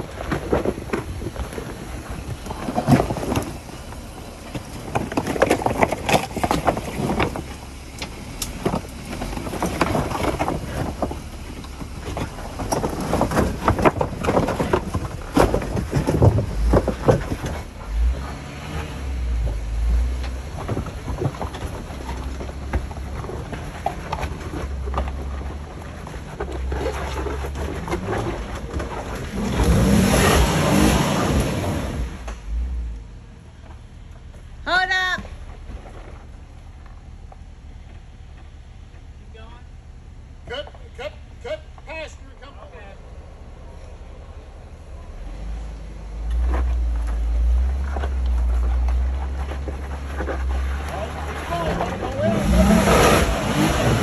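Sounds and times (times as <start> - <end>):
off-road vehicle engine: 0.0 - 54.0
tyre noise: 0.0 - 54.0
vehicle knocks and clunks: 0.0 - 54.0.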